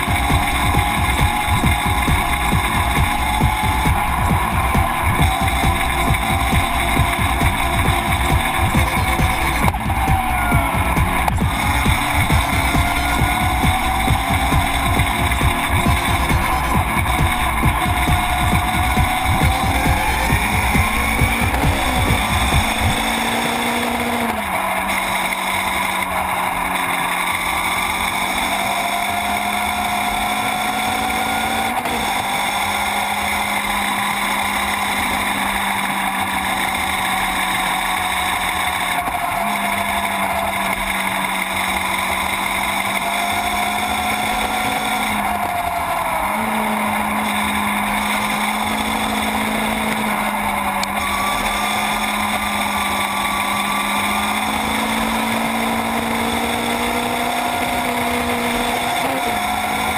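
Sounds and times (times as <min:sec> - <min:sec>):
motorcycle engine at high rpm: 0:00.0 - 0:59.9
wind and road noise: 0:00.0 - 0:59.9.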